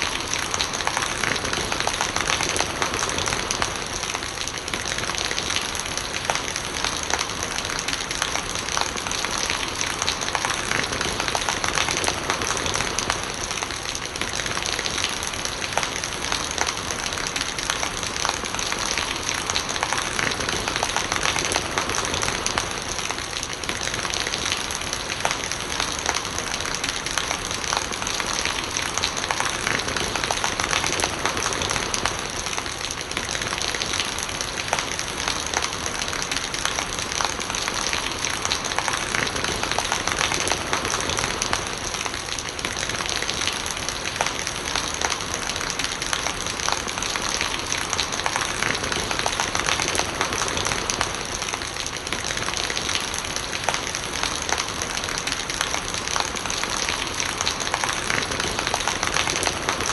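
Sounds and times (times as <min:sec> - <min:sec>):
raindrops pattering on surfaces: 0:00.0 - 0:59.9
rainwater gurgling: 0:00.0 - 0:59.9
steady rain falling: 0:00.0 - 0:59.9.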